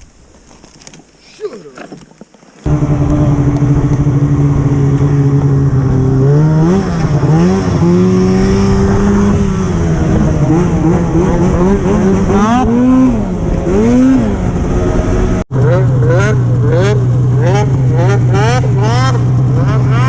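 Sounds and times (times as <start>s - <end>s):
snowmobile engine revving: 2.6s - 20.0s.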